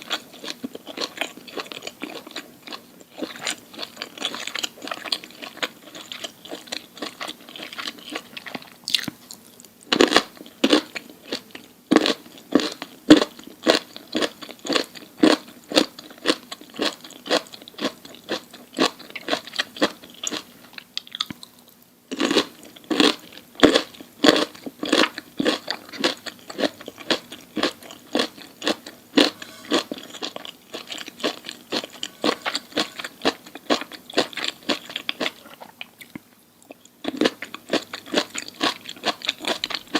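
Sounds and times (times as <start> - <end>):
mouth chewing crunchy food: 0.0 - 39.9.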